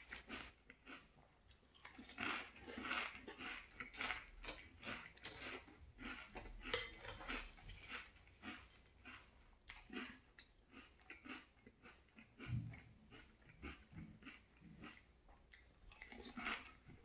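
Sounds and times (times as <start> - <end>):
crunchy chewing of cereal: 0.0 - 17.0.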